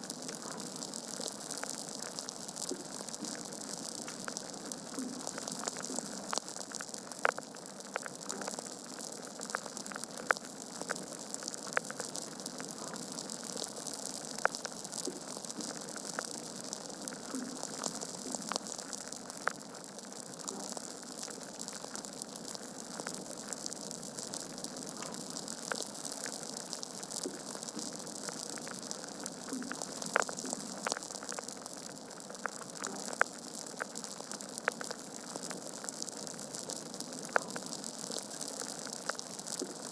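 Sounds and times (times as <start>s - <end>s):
crackles and pops of burning logs: 0.0s - 39.9s.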